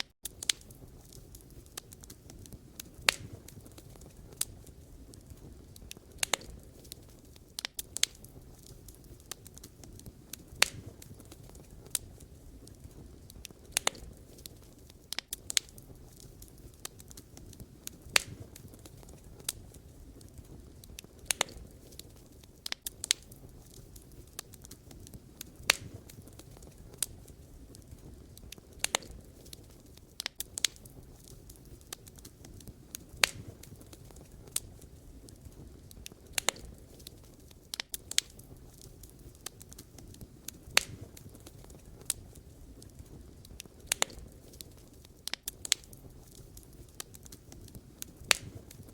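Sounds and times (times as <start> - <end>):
firewood crackling and popping: 0.0 - 48.9
low rush of flames: 0.2 - 48.9.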